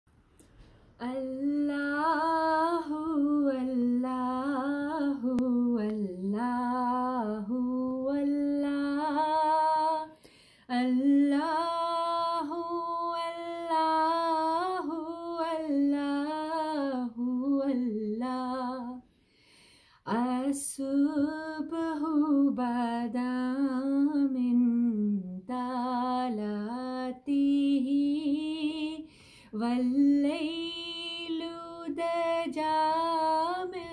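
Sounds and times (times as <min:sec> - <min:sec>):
woman singing unaccompanied: 0:01.0 - 0:19.0, 0:20.1 - 0:33.9.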